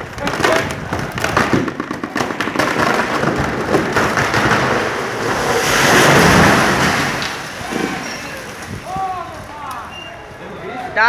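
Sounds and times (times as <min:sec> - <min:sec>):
tree crashing down: 0:00.0 - 0:09.7
tree trunk cracking: 0:00.0 - 0:09.9.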